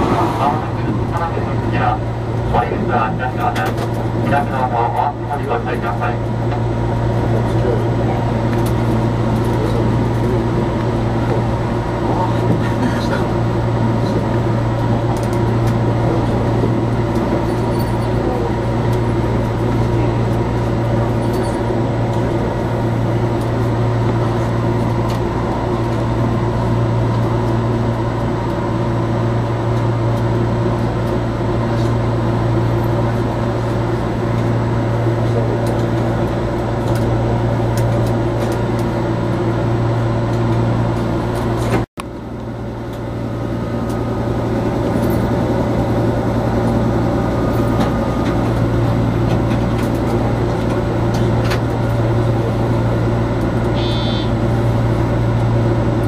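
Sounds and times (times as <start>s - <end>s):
train rail running noise: 0.0s - 56.0s.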